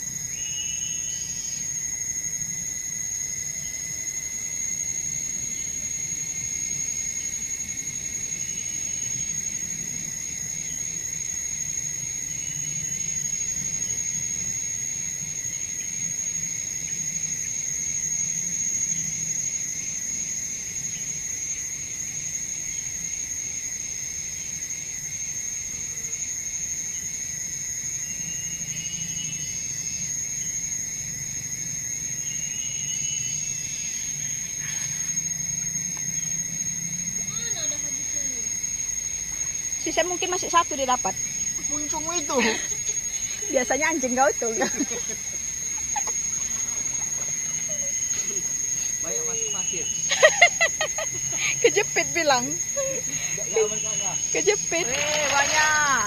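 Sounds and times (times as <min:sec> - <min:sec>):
insects droning: 0:00.0 - 0:56.0
weaker lower insect tone: 0:00.0 - 0:56.0.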